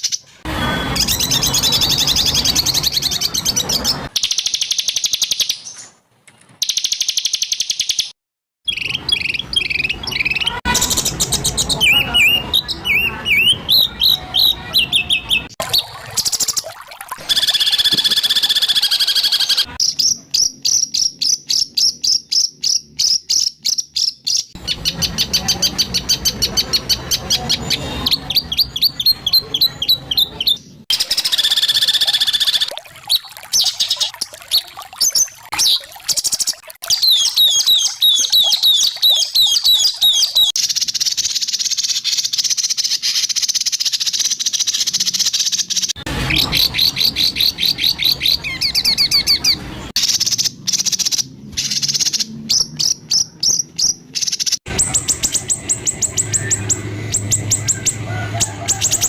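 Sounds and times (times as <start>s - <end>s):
bird song with harsh repeated notes: 0.0s - 6.0s, 6.6s - 59.0s.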